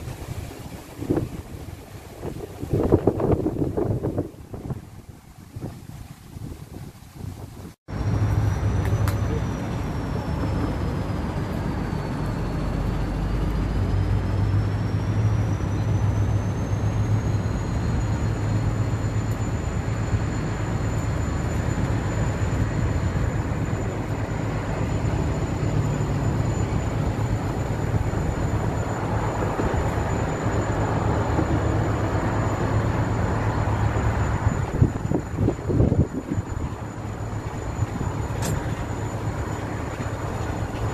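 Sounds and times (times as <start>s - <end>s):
freight train rumble and hiss: 0.0s - 40.9s
faint high whine: 7.9s - 40.9s
low hum: 7.9s - 40.9s.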